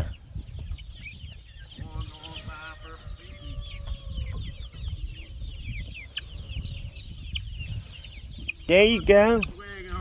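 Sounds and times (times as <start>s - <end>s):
chickens clucking: 0.0s - 10.0s
drawn-out chicken call: 0.0s - 10.0s.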